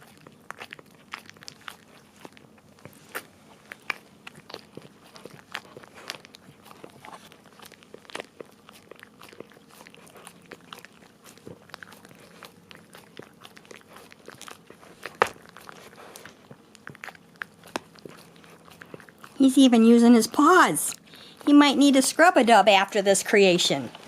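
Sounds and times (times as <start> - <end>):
dog licking and smacking: 0.0 - 24.0.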